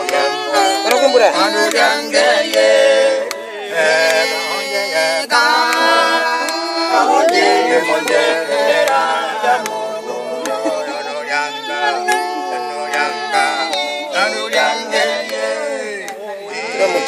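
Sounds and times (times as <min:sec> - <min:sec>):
group singing a cappella: 0:00.0 - 0:17.0.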